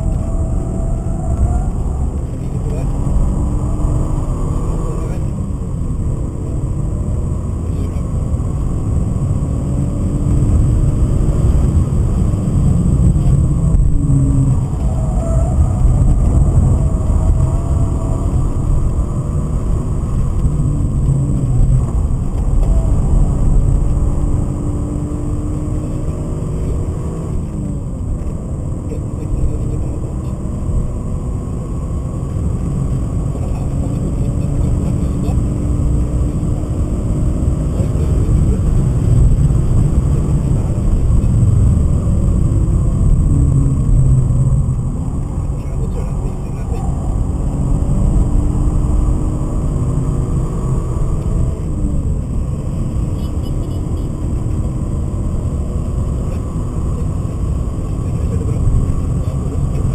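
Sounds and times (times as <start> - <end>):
car engine revving: 0.0 - 59.9
road and tyre rumble: 0.0 - 59.9.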